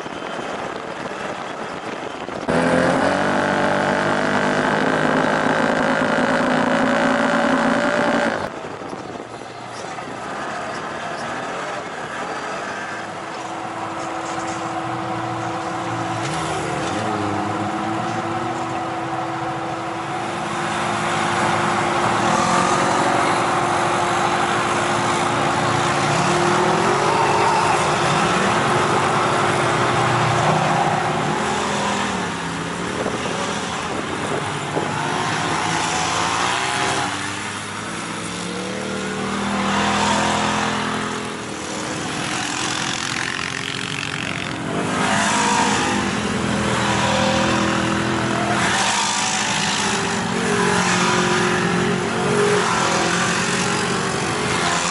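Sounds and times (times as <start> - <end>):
off-road vehicle engines: 0.0 - 54.9.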